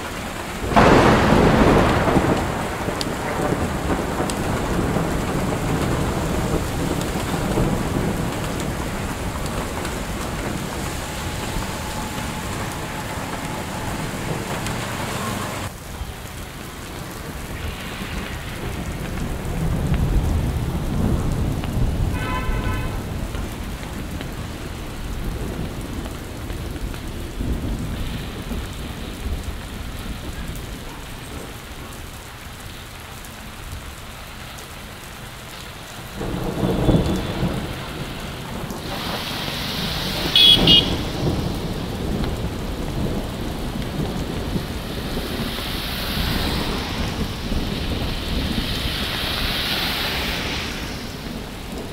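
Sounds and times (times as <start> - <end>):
heavy rain on a street: 0.0 - 51.9.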